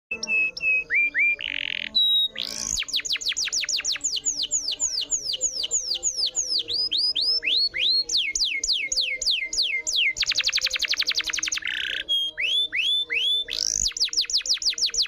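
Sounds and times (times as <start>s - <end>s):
canary singing: 0.1s - 15.0s.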